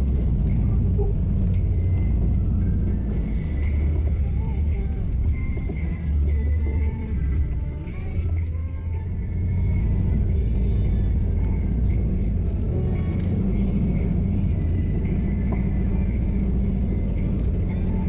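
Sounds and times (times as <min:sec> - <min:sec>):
diesel engine rumble: 0:00.0 - 0:18.0.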